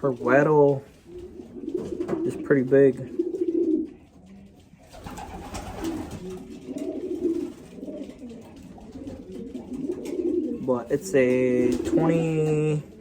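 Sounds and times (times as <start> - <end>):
pigeons cooing: 0.1 - 13.0.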